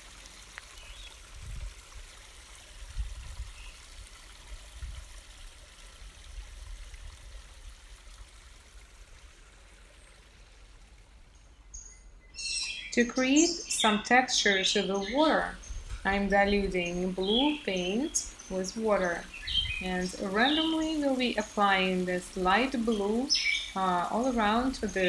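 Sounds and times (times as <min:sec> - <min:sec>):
flowing water rushing: 0:00.0 - 0:11.7, 0:13.0 - 0:25.0.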